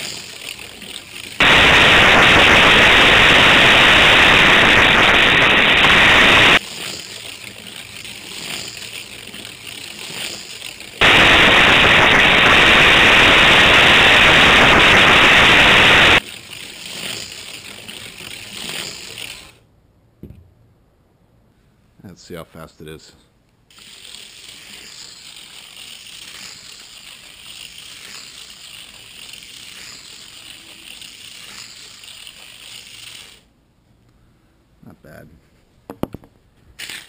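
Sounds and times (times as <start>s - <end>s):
toy slot car running on track: 0.0s - 19.6s, 23.7s - 33.5s, 36.8s - 37.0s.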